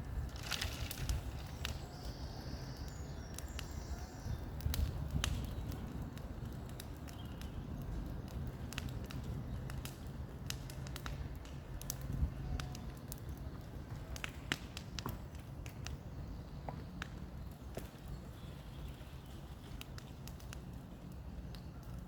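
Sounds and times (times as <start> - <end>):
sharp cracks and snaps: 0.0 - 22.0.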